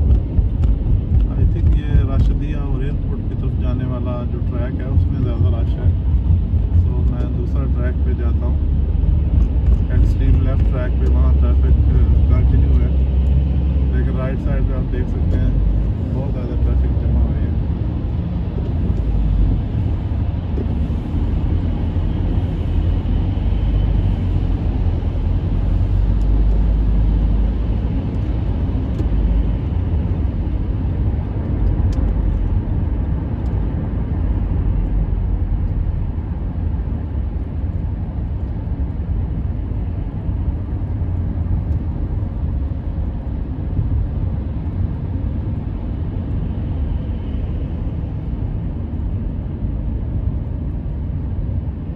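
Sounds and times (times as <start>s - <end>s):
car engine rumble: 0.0s - 51.9s
road noise: 0.0s - 51.9s.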